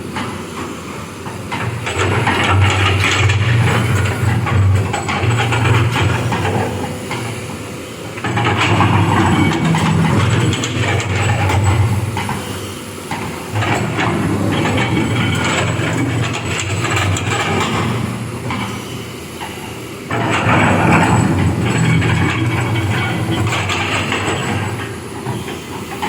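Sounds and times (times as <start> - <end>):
excavator diesel engine under load: 0.0 - 26.0.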